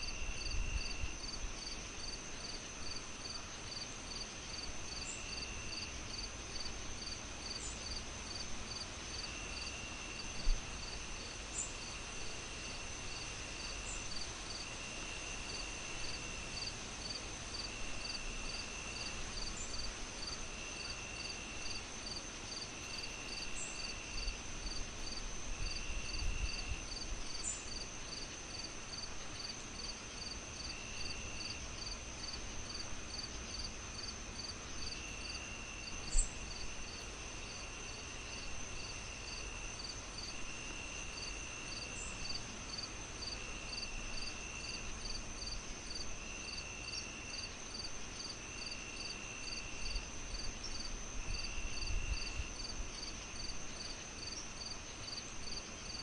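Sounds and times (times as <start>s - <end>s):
high insect whine: 0.0s - 56.0s.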